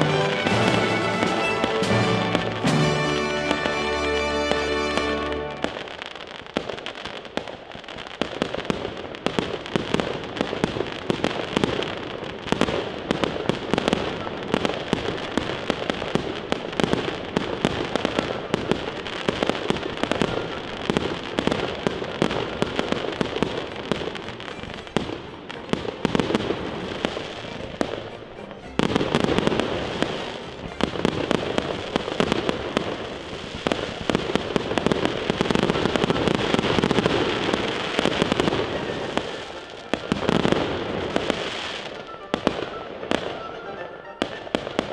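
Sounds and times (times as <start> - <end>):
fireworks crackling and banging: 0.0 - 44.9.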